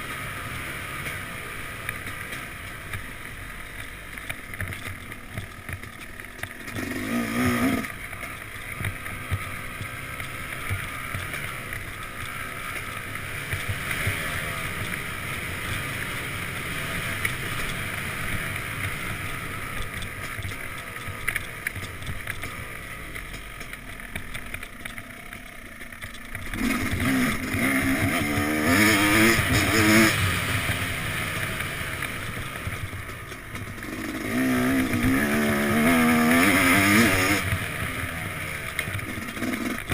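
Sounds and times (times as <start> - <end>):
dirt bike engine revving: 0.0 - 39.9
wind: 0.0 - 39.9.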